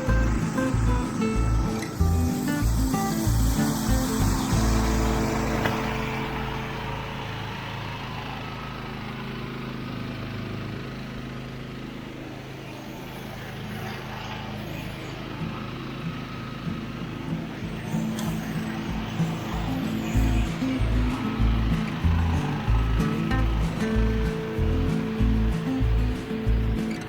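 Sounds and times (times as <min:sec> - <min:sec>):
lawn mower engine running: 0:00.0 - 0:27.0.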